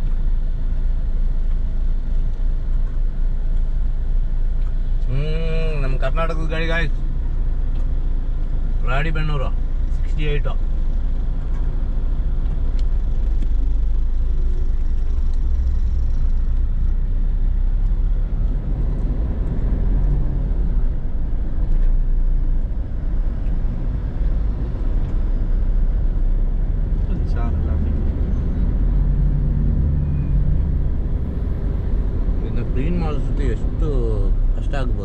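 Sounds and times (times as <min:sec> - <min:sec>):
car cabin road noise: 0:00.0 - 0:35.0.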